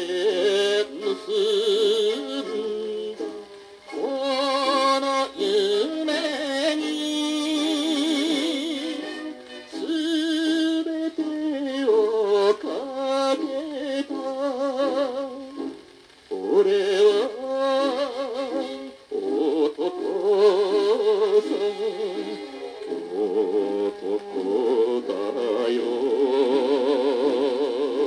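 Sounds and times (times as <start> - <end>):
popular song record playing: 0.0 - 28.0.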